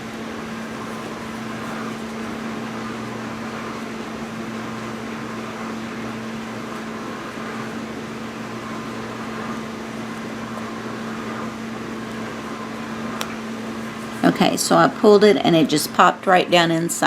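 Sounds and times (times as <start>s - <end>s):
appliance hum and hiss: 0.0s - 17.0s.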